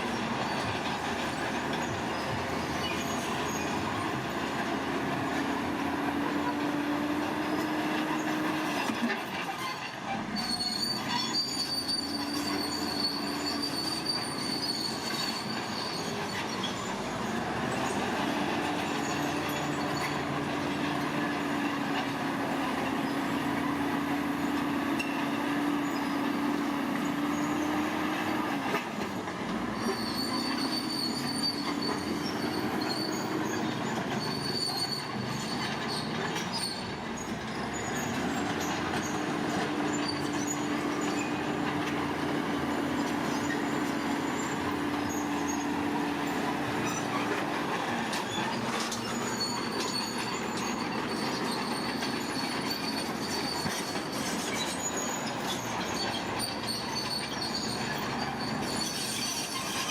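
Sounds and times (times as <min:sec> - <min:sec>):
diesel engine running: 0:00.0 - 0:59.9
metallic squealing: 0:00.1 - 0:28.8, 0:29.6 - 0:59.9.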